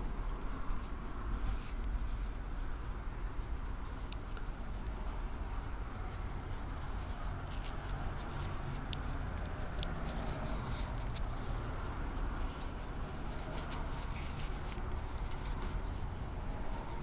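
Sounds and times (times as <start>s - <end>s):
nylon webbing rustling and scraping: 0.0s - 17.0s
small clicks and scratches: 0.0s - 17.0s
steady low rumble: 0.0s - 17.0s.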